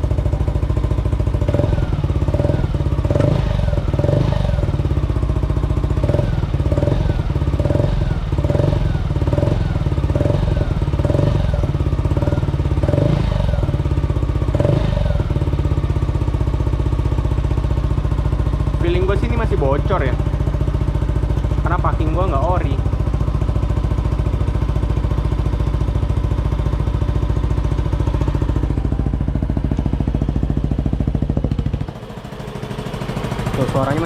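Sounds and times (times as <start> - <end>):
scooter engine idling: 0.0 - 34.0.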